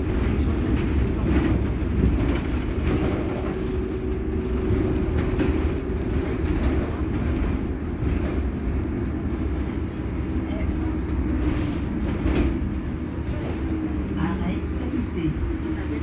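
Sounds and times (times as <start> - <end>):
electric bus low rumble: 0.0 - 16.0.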